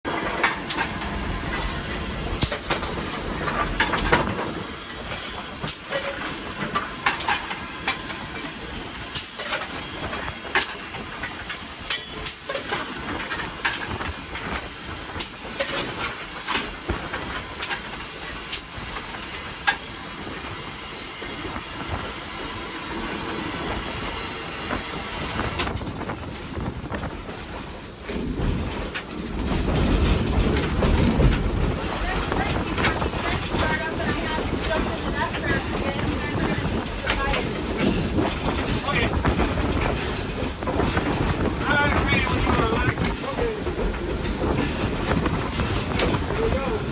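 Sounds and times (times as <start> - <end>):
steam hissing: 0.2 - 46.9.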